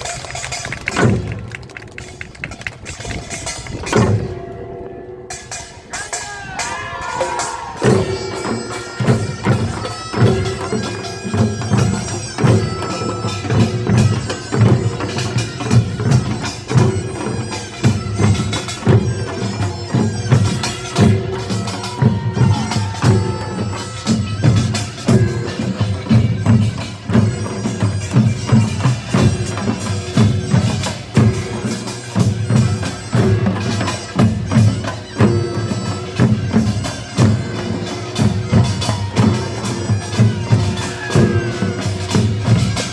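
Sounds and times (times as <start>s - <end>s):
drums and gongs rhythm: 0.0s - 42.9s
piercing reed pipe melody: 5.3s - 42.9s.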